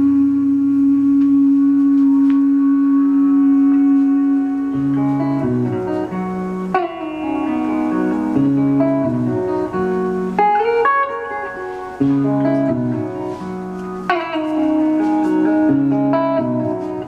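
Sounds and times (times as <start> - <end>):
guitar playing plucked notes: 0.0 - 17.0.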